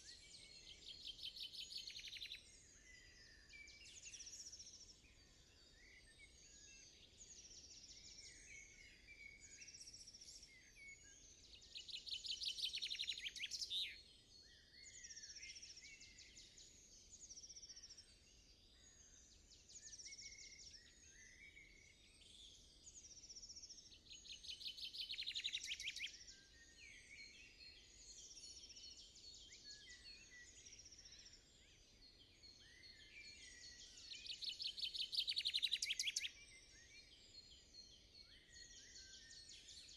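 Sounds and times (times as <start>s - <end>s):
bird song of rapid repeated notes: 0.0s - 39.9s
songbirds singing and chirping: 0.0s - 39.9s.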